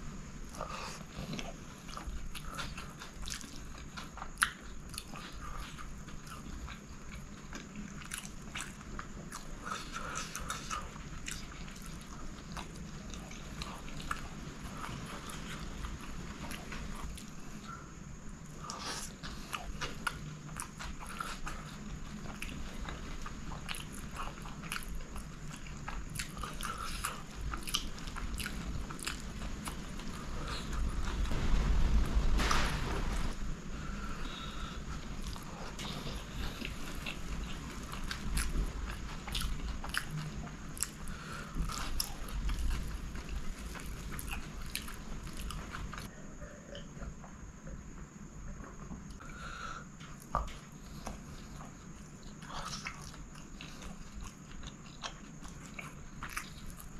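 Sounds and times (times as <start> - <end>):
person chewing food: 0.2 - 17.8, 18.4 - 31.4, 34.2 - 47.3, 50.0 - 56.9.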